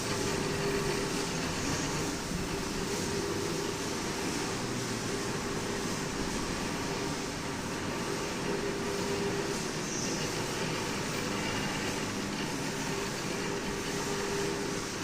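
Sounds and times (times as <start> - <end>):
workshop machinery running: 0.0 - 15.0.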